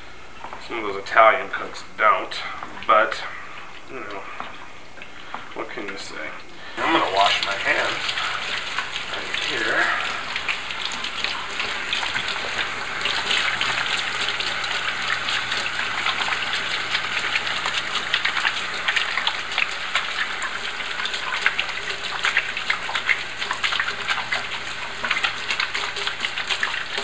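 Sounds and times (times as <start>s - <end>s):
faucet running into a sink: 4.0s - 27.0s.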